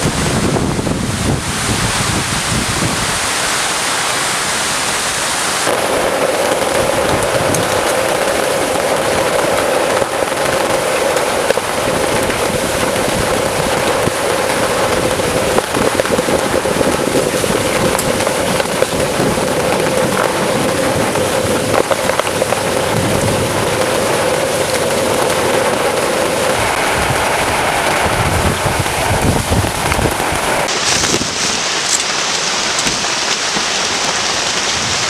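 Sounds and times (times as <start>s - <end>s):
heavy rain pelting down: 0.0s - 35.0s.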